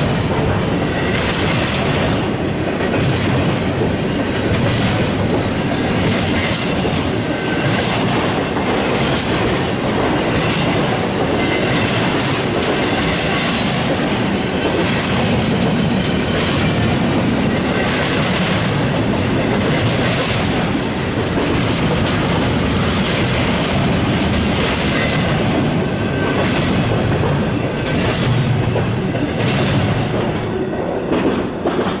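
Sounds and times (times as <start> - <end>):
freight train rumbling past: 0.0 - 32.0
wheels clacking over rail joints: 0.0 - 32.0.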